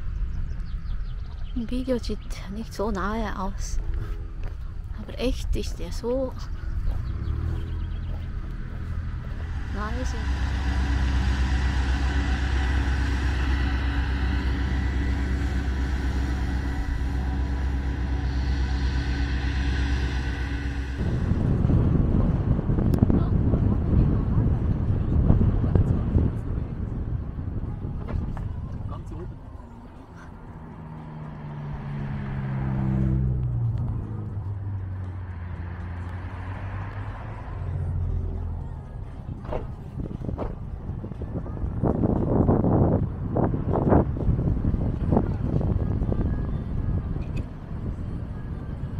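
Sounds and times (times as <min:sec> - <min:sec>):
vehicle engine drone: 0:00.0 - 0:48.9.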